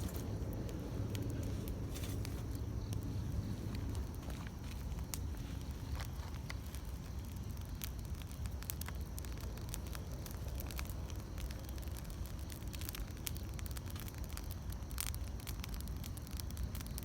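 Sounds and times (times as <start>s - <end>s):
campfire flames rumbling: 0.0s - 17.0s
fire crackling and popping: 0.0s - 17.0s.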